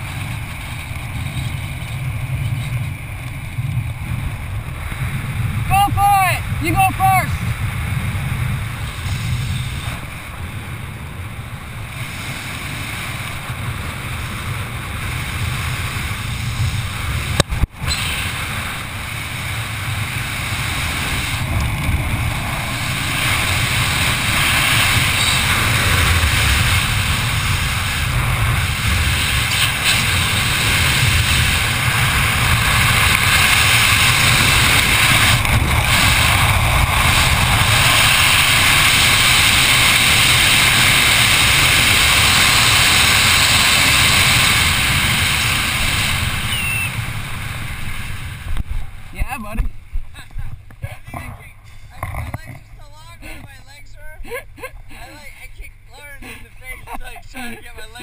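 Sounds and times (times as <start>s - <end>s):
wind rushing over microphone: 0.0s - 56.1s.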